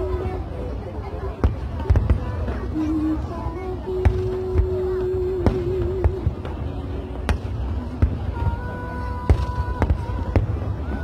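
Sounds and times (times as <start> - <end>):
fireworks bursting: 1.4 - 3.3, 4.0 - 11.0.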